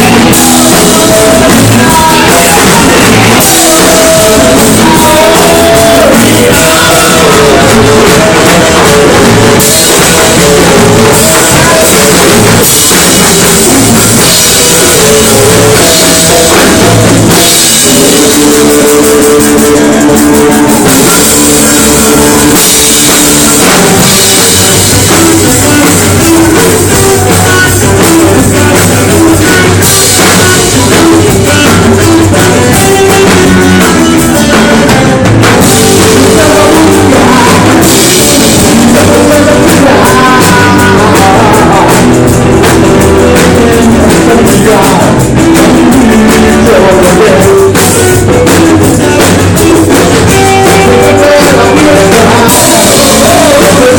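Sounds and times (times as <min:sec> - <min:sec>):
drum kit beat: 0:00.0 - 0:53.9
loud rock music: 0:00.0 - 0:53.9
person singing: 0:00.0 - 0:53.9.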